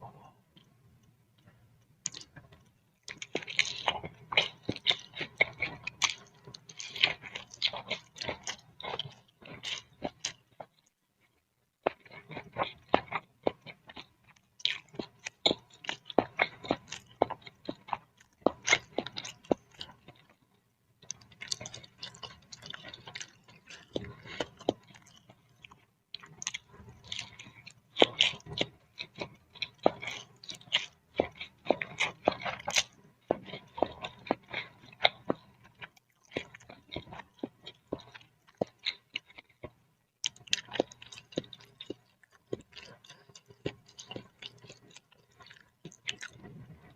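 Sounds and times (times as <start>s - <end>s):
chewing noodles: 2.0s - 20.4s, 21.0s - 46.9s.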